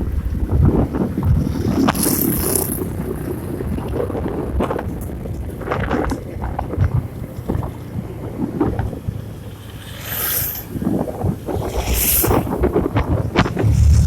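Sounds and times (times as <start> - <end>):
wind buffeting microphone: 0.0 - 9.8, 10.6 - 14.0
vehicle rumble on rough road: 0.0 - 14.0.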